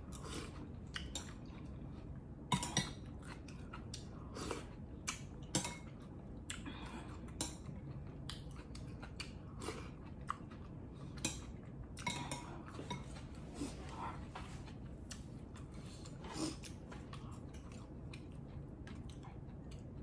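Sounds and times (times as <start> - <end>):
close-up chewing: 0.0 - 20.0.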